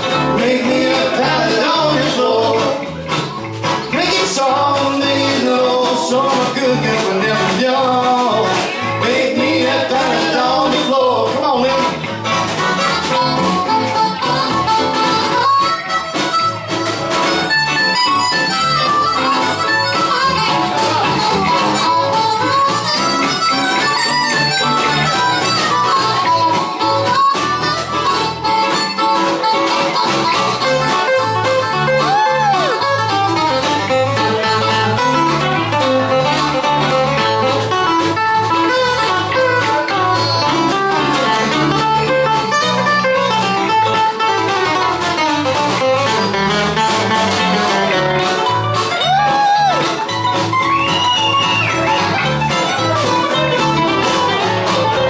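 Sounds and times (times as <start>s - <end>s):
guitar picking: 0.0s - 55.0s
mandolin picking: 0.0s - 55.0s
steady bass line: 0.0s - 55.0s.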